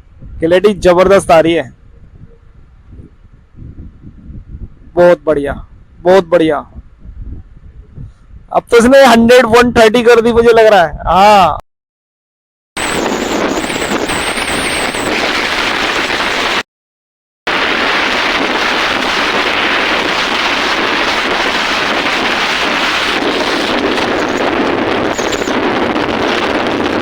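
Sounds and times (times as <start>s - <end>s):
wind roaring over microphone: 0.0s - 11.6s, 12.8s - 16.6s, 17.5s - 27.0s.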